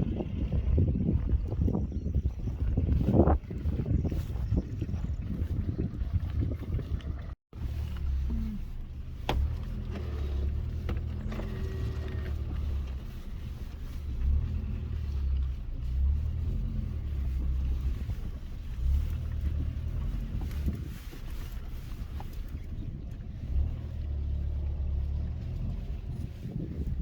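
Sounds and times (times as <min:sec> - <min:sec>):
car engine rumbling: 0:00.0 - 0:27.0.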